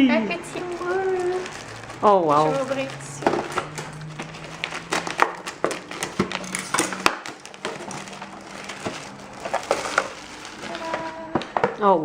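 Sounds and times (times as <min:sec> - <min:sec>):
packaging crinkling and rustling: 0:00.4 - 0:11.8.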